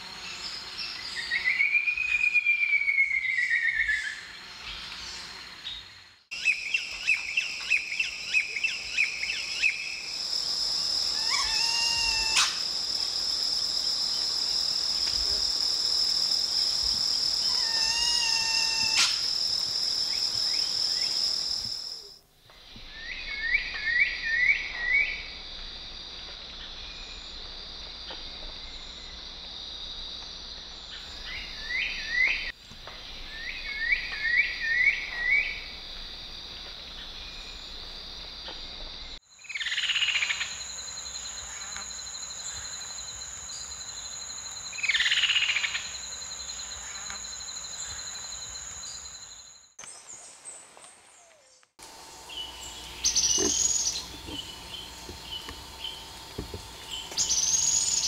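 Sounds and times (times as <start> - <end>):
high-pitched insect drone: 0.0 - 49.7, 51.8 - 58.0.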